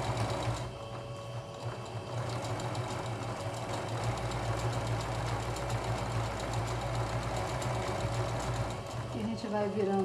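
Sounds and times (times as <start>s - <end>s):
sewing machine stitching: 0.0s - 10.0s.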